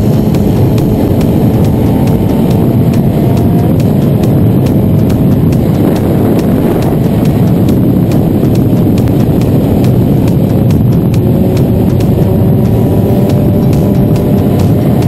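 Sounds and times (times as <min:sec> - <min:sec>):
faint motorcycle engine: 0:00.0 - 0:15.0
wind rush on microphone: 0:00.0 - 0:15.0.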